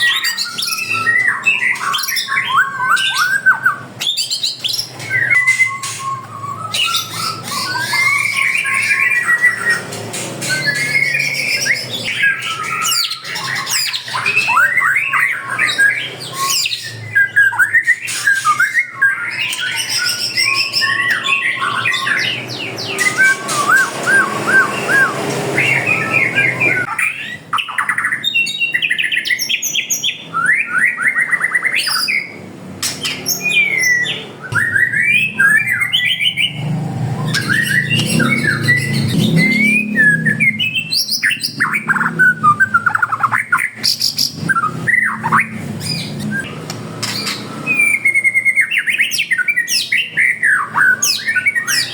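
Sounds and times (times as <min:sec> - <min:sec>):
caged songbirds calling: 0:00.0 - 0:51.9.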